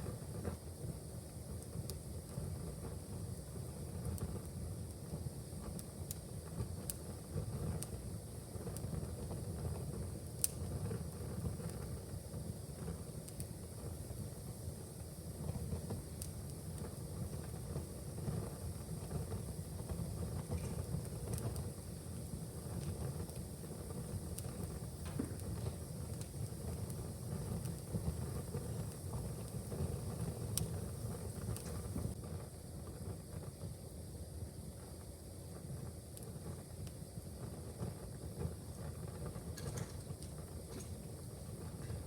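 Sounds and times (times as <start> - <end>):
fire crackling in a fireplace: 0.0 - 42.0.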